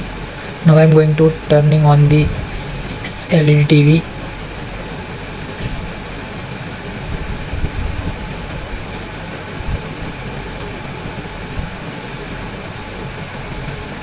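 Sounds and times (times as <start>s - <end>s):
fan hiss and rumble: 0.0s - 14.0s.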